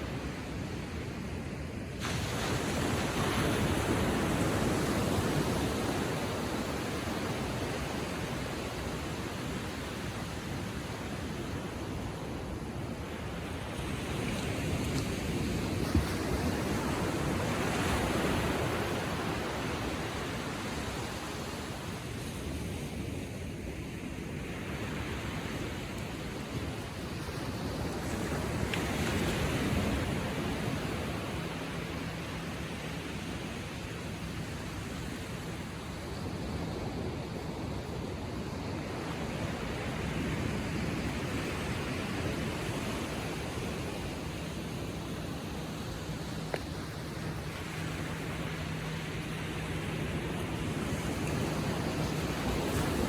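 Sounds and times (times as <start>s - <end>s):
ocean waves washing onto beach: 0.0s - 53.0s.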